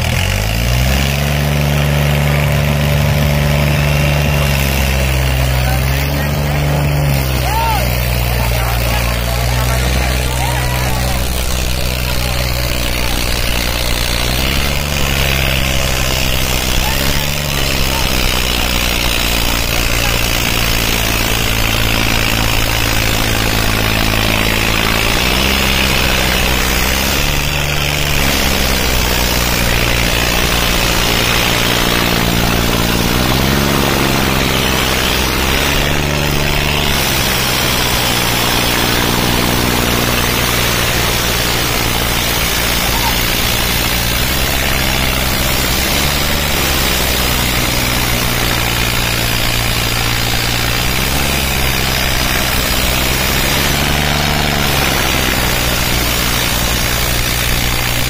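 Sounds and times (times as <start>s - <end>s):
tractor engine under heavy load: 0.0s - 58.0s.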